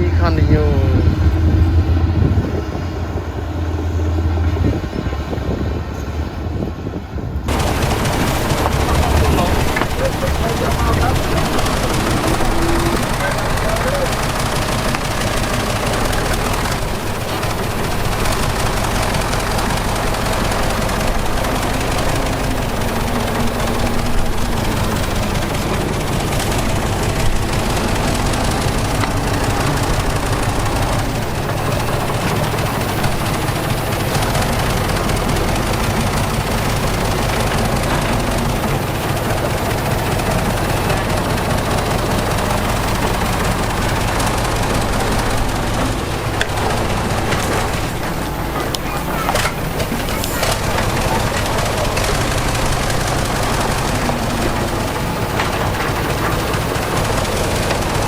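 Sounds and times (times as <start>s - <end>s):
loud broad noise: 0.0s - 5.9s, 7.5s - 58.0s
diesel engine low rumble: 0.0s - 58.0s.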